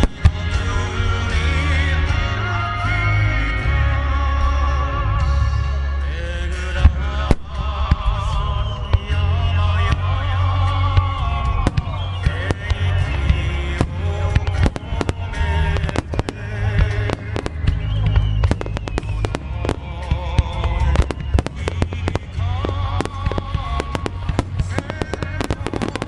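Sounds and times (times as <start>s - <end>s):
loud music with singing voice: 0.0s - 26.0s.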